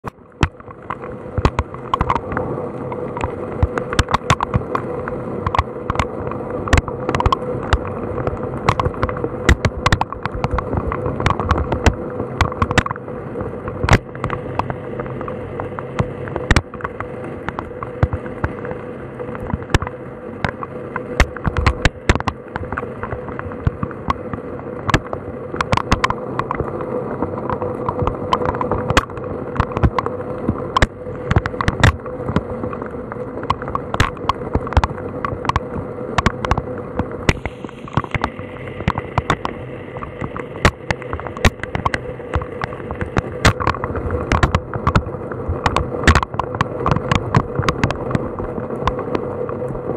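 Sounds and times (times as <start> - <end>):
rain pattering: 0.0 - 49.9
raindrops tapping on camera: 0.0 - 49.9.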